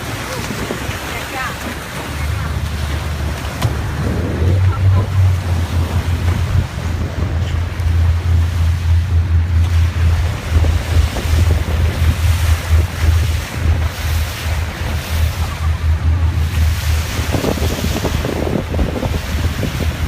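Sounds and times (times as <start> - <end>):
low rumble: 0.0 - 20.0
water washing: 0.0 - 20.0
wind buffeting microphone: 0.0 - 20.0.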